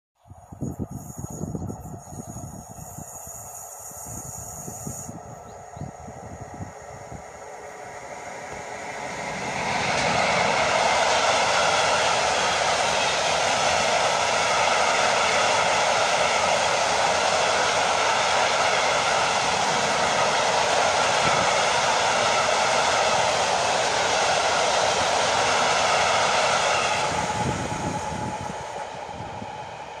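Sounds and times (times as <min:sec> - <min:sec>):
freight train rolling past: 0:00.2 - 0:30.0.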